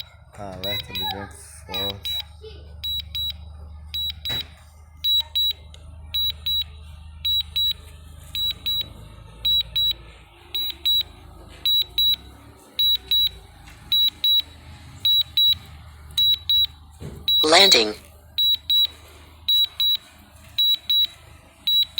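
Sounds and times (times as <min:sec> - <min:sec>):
controller warning beeps: 0:00.0 - 0:21.9.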